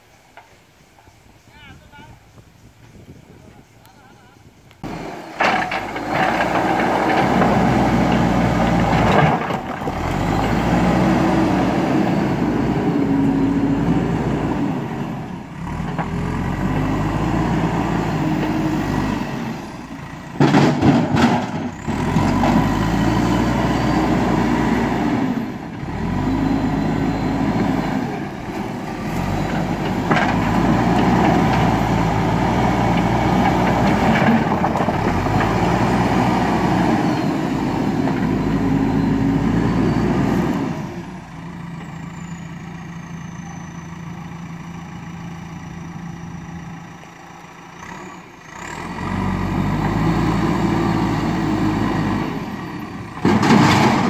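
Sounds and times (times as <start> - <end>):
diesel engine revving: 4.8 - 54.0.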